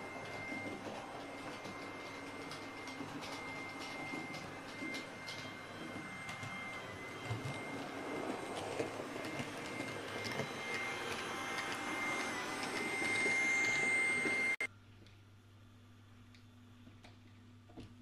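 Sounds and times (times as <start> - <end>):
high motor whine: 0.0 - 14.7.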